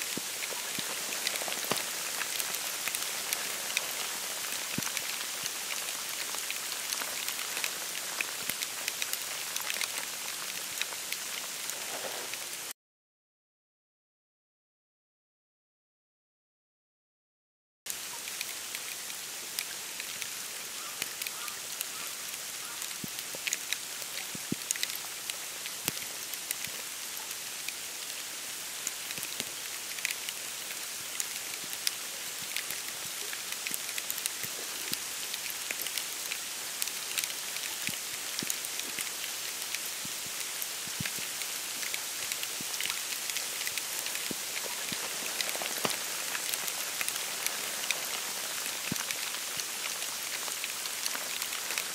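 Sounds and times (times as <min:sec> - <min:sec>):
snow pattering on reeds: 0:00.0 - 0:12.7, 0:17.9 - 0:51.9.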